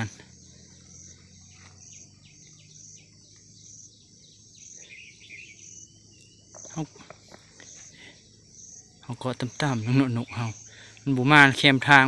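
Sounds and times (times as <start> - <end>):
bird call notes: 0.0 - 11.0
insect chirping: 0.0 - 12.0.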